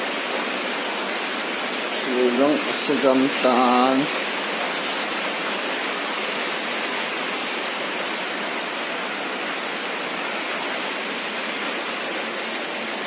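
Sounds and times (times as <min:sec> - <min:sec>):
heavy rain: 0:00.0 - 0:13.0
rushing floodwater: 0:00.0 - 0:13.0.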